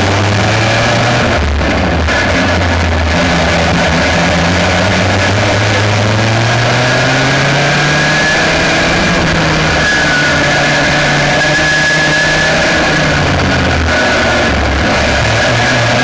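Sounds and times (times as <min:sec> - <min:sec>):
kart engine running: 0:00.0 - 0:16.0.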